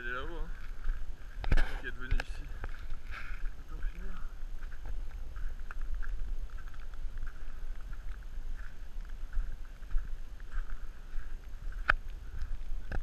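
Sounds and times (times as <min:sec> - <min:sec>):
footsteps crunching on cinder: 0:00.0 - 0:13.0
steady low rumble: 0:00.0 - 0:13.0.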